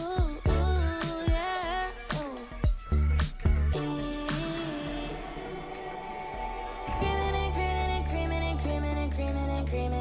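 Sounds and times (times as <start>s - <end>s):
song with deep bass beat: 0.0s - 10.0s.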